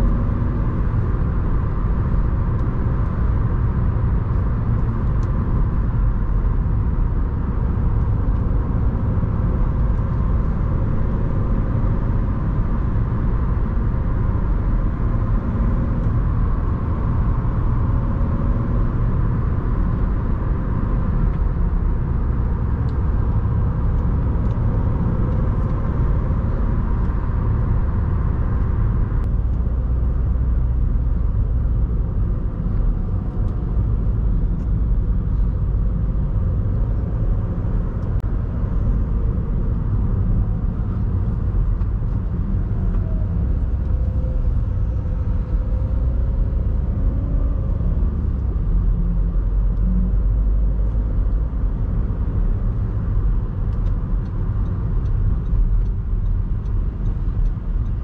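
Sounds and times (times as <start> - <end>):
tyre and road rumble: 0.0 - 58.0.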